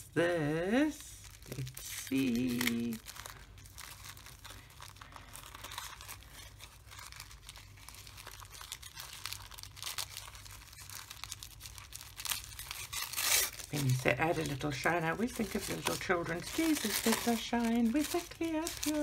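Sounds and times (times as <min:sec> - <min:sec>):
wrapping paper crinkling: 0:00.2 - 0:19.0.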